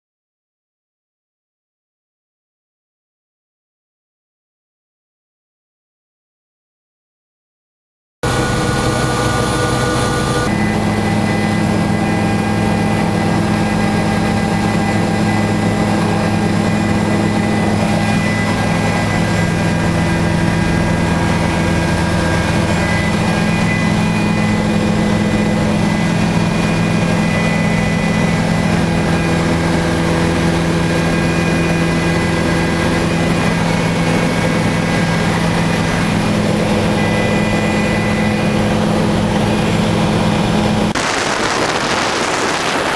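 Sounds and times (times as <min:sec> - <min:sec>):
helicopter engine and rotor whine: 0:08.2 - 0:42.9.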